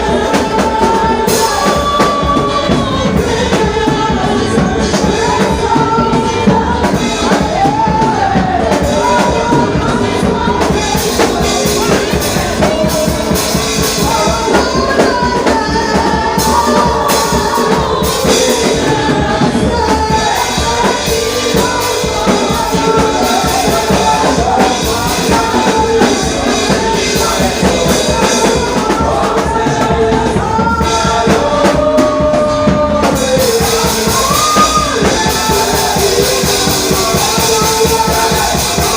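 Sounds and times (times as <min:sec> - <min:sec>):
band with drums and percussion: 0:00.0 - 0:38.9
voices singing: 0:00.0 - 0:38.9.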